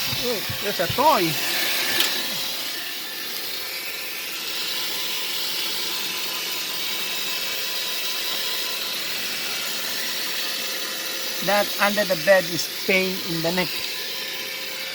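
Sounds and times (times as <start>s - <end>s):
robot vacuum whirring: 0.0s - 14.9s.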